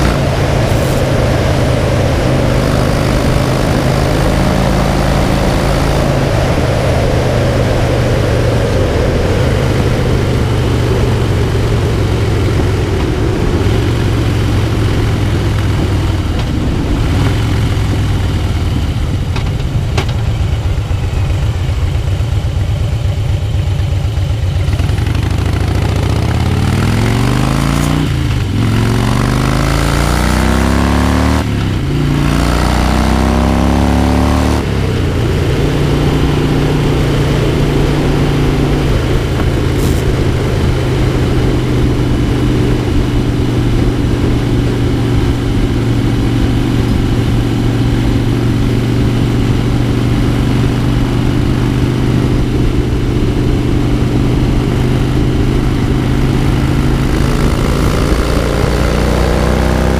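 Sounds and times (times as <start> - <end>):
wind rush: 0.0 - 22.6, 25.8 - 59.6
motorcycle engine running: 0.0 - 59.9.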